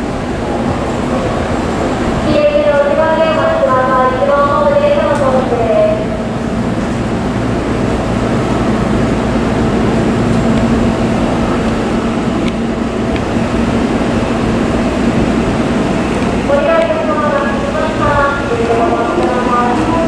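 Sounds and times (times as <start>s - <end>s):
train wheels rumbling on rail: 0.0s - 20.0s
low motor hum: 2.4s - 20.0s.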